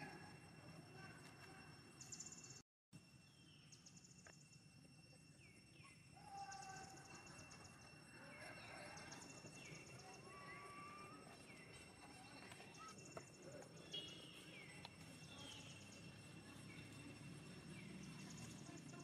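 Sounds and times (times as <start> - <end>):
birdsong trills and chirps: 3.2 - 19.0.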